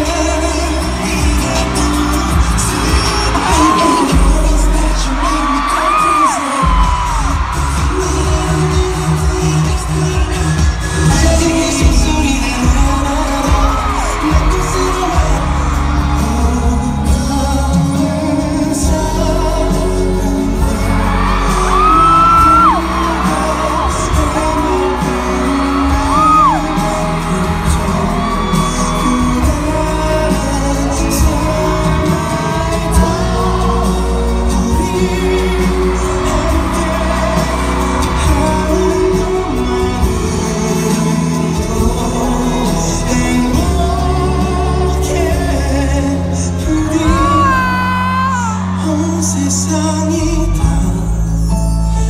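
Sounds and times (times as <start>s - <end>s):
pop music with singing: 0.0s - 52.0s.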